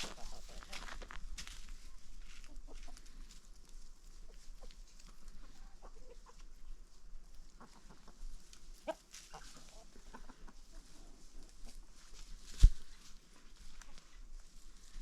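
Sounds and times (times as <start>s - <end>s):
chickens clucking: 0.0s - 12.3s.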